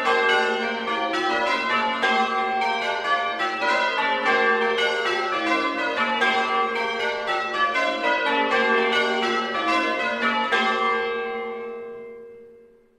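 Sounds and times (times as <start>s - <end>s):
church bells ringing: 0.0s - 12.9s.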